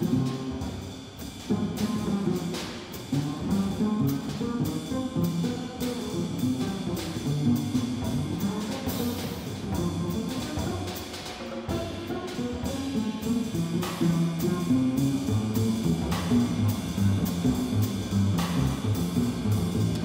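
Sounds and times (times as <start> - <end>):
jazz piano bass and drums: 0.0 - 20.0.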